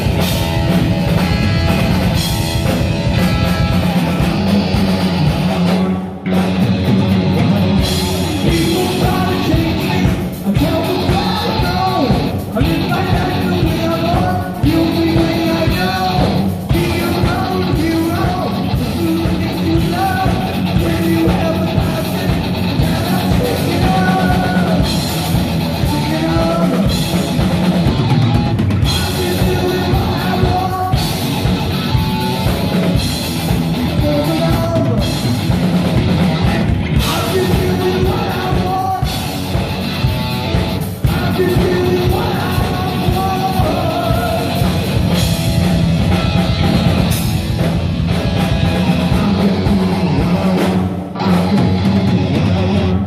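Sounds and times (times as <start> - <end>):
heavy metal band playing: 0.0 - 53.0.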